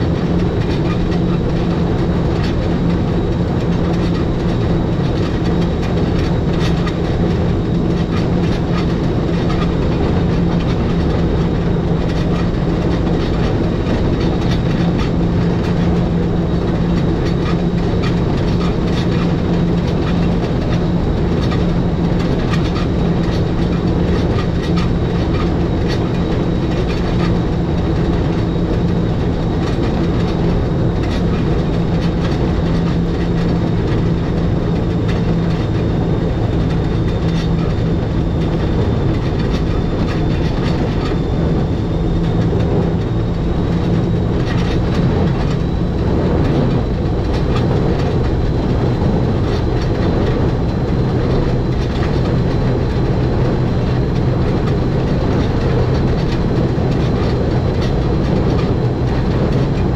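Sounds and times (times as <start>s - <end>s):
low motor hum: 0.0s - 59.9s
train wheels and rack gearing rumble: 0.0s - 59.9s.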